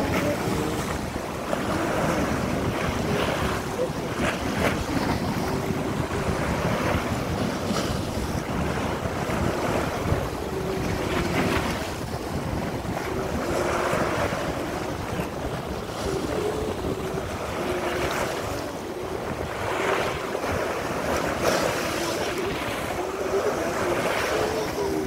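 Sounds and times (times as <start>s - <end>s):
small waves washing on sand: 0.0s - 25.0s
wind rumbling on microphone: 0.0s - 25.0s.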